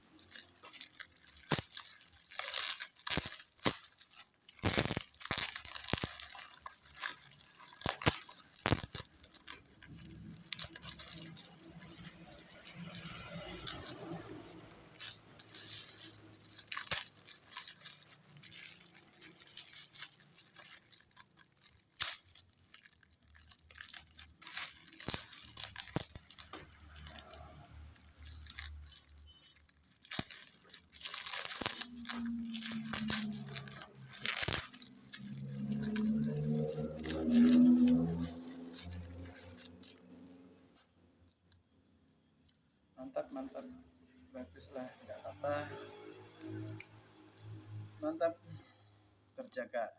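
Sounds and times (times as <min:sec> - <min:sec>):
plastic packaging crinkling: 0:00.0 - 0:40.6, 0:42.4 - 0:43.8, 0:44.4 - 0:48.8.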